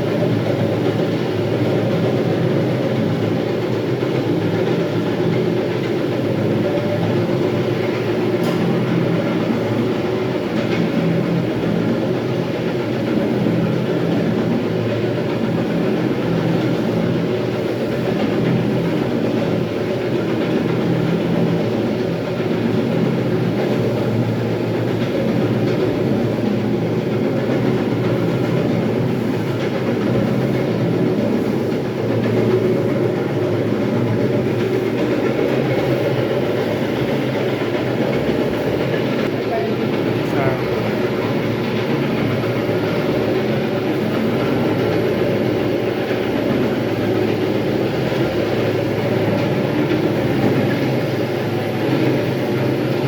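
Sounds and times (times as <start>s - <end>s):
floor grinding machine running: 0.0s - 53.0s.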